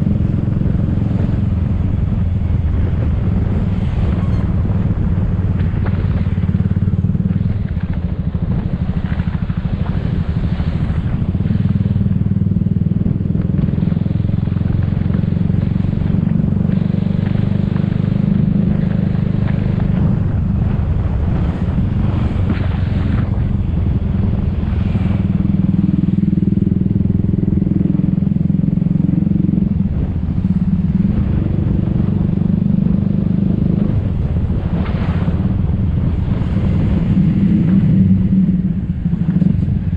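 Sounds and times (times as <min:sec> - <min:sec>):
traffic: 0:00.0 - 0:39.9.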